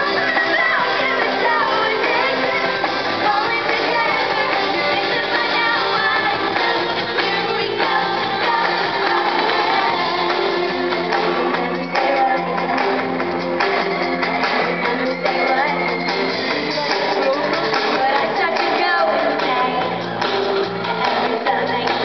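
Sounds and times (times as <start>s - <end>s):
electric guitar: 0.0s - 22.0s
live pop-rock band: 0.0s - 22.0s
woman singing: 0.0s - 22.0s.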